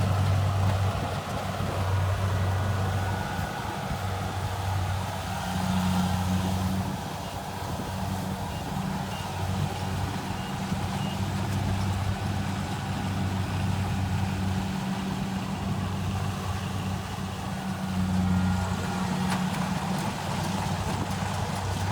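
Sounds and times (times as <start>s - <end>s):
combine harvester engine running: 0.0s - 21.9s.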